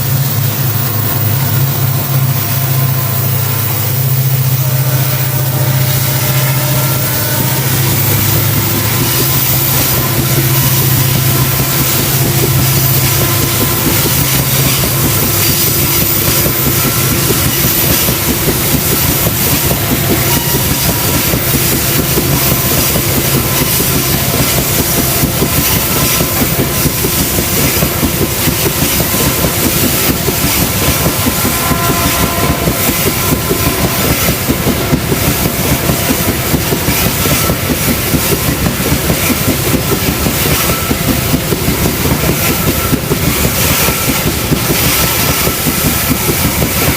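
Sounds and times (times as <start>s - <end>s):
low locomotive engine tone: 0.0s - 46.9s
train wheels clattering over rail joints: 0.0s - 46.9s.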